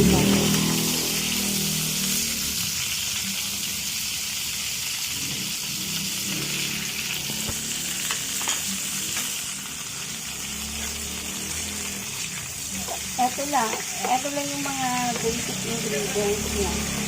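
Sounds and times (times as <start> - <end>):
margarine sizzling in a frying pan: 0.0 - 17.0.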